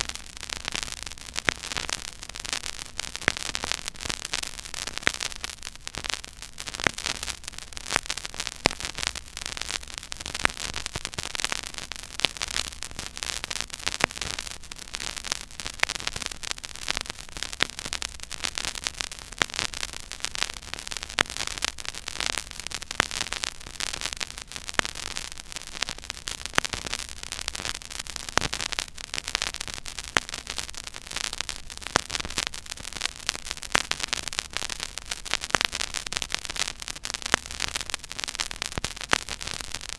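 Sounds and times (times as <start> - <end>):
vinyl crackle and pops: 0.0 - 39.9
vinyl record surface hiss: 0.0 - 39.9.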